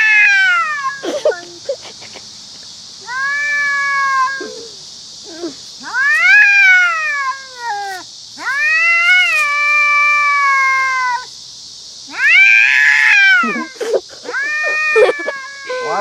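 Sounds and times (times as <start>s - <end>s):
cat yowling angrily: 0.0s - 1.1s, 3.0s - 11.3s, 12.1s - 16.0s.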